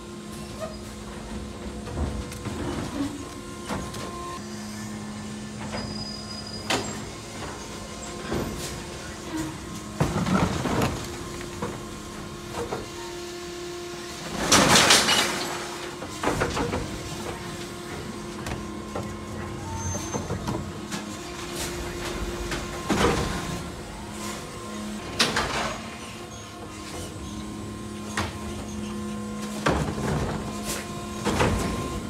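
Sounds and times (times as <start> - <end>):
electric machinery whine: 0.0 - 32.0.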